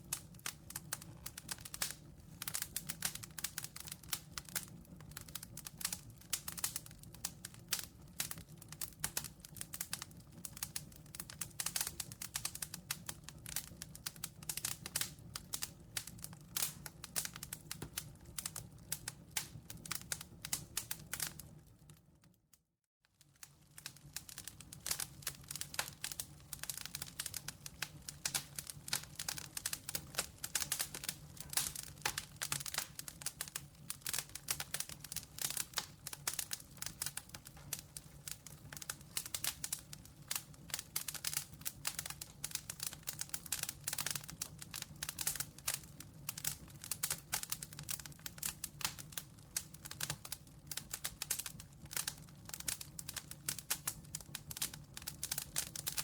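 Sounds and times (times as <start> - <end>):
campfire crackling: 0.0 - 21.8, 23.2 - 56.0.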